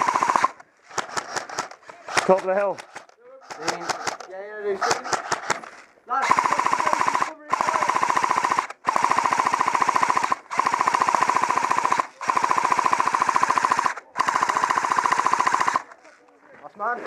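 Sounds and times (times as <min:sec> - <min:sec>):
airsoft gun firing full auto: 0:00.0 - 0:05.6, 0:06.2 - 0:16.0.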